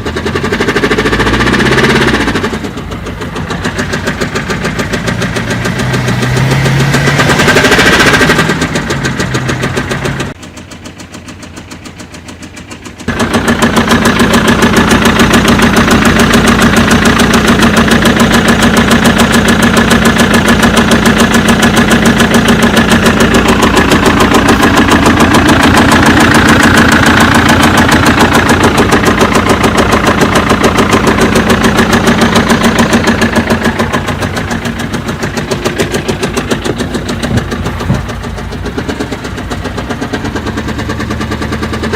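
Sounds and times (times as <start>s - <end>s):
diesel engine running: 0.0s - 41.9s
engine tapping knock: 0.0s - 41.9s.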